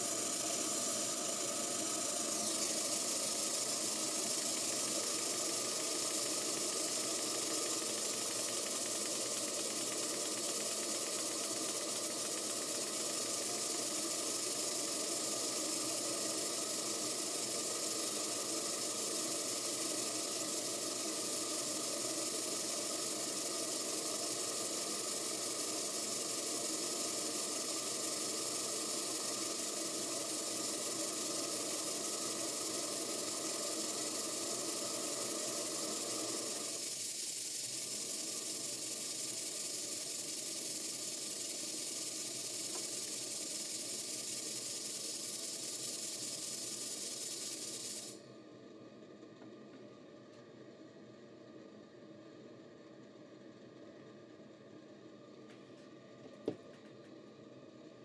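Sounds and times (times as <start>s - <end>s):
steam engine running: 0.0s - 48.2s
steam hissing: 0.0s - 48.2s.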